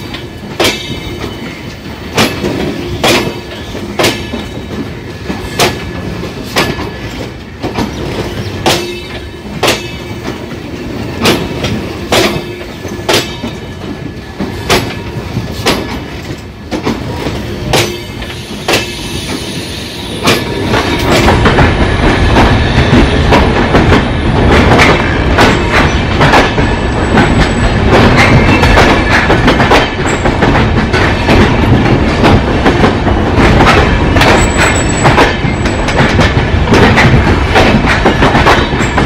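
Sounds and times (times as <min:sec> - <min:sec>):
train wheels clacking: 0:00.0 - 0:39.0.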